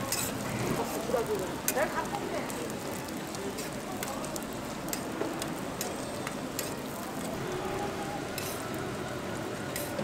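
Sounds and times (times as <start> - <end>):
pancakes sizzling in oil: 0.0 - 10.0.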